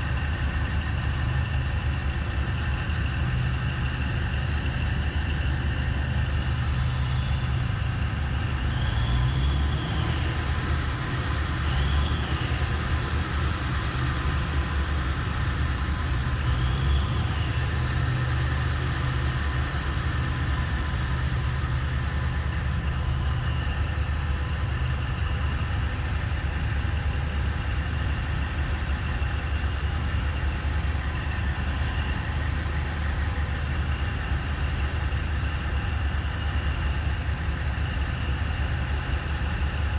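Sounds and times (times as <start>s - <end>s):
truck engine idling rumble: 0.0s - 39.9s.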